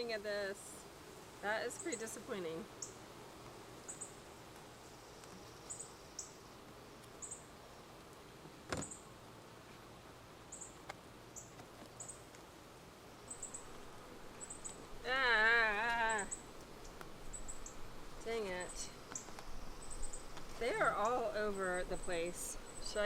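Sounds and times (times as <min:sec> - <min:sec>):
honeybees humming: 0:00.0 - 0:23.0.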